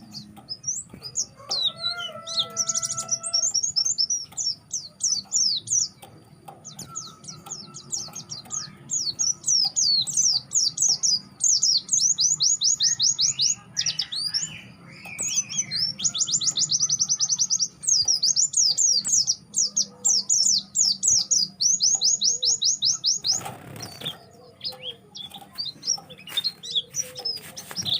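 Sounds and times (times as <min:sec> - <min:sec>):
bird chirping trills: 0:00.0 - 0:27.9.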